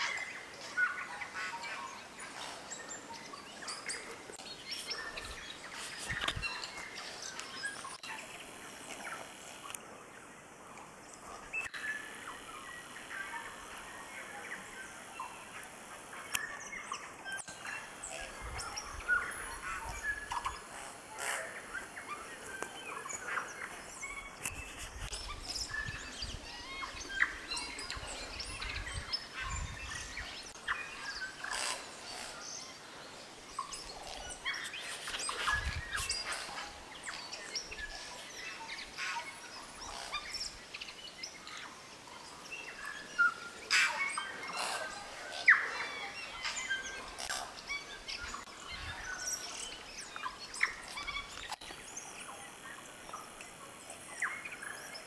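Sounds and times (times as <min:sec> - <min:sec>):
forest birds chirping: 0:00.0 - 0:55.0.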